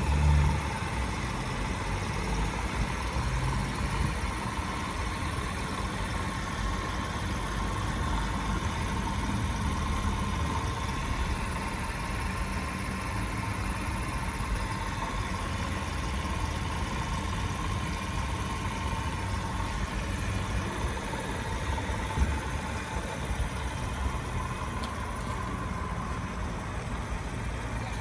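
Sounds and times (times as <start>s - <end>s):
motorbike engine idling: 0.0s - 28.0s.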